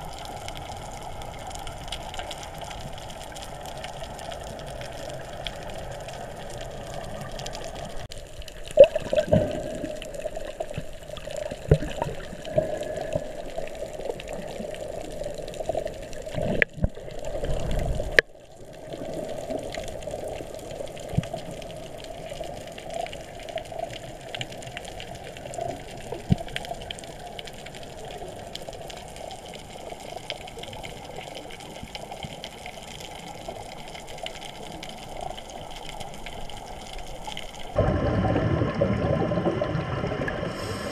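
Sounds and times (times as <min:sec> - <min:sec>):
muffled underwater rush: 0:00.0 - 0:28.6, 0:34.9 - 0:40.9.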